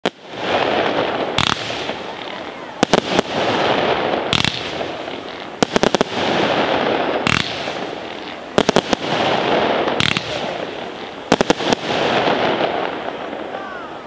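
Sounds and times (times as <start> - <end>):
fireworks shells bursting: 0.0 - 13.5
fireworks crackle: 0.0 - 14.0.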